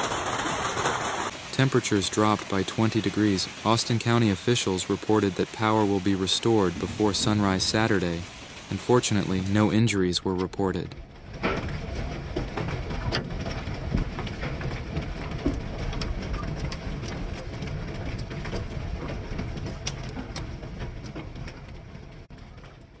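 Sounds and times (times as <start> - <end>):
rain: 0.0 - 23.0
wind: 0.0 - 23.0.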